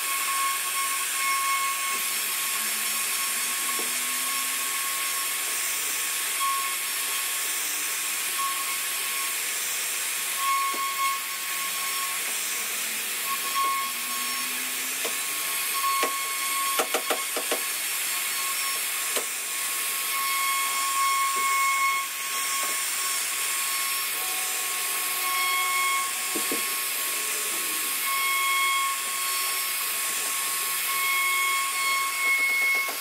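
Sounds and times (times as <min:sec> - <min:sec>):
router spindle hiss: 0:00.1 - 0:33.0.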